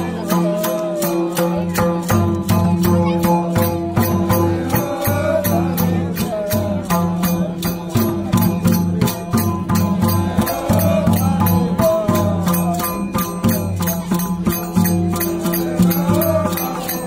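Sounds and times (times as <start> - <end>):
hand drums beating: 0.0 - 17.0
voices singing: 0.0 - 17.0.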